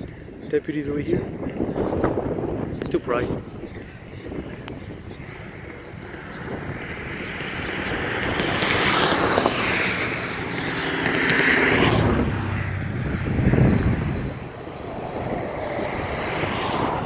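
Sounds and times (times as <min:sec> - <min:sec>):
vehicles passing close by: 0:00.0 - 0:17.0.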